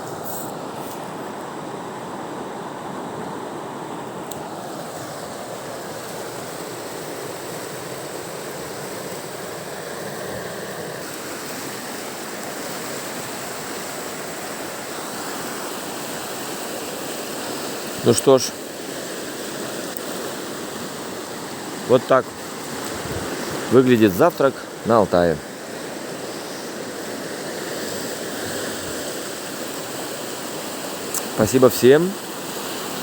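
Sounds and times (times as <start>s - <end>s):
river rushing over rocks: 4.4s - 33.0s.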